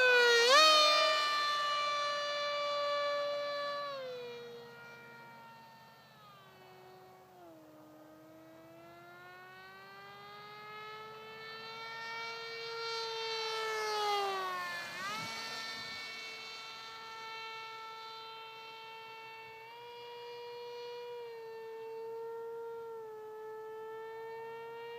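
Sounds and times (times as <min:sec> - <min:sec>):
model airplane motor whining: 0:00.0 - 0:24.9.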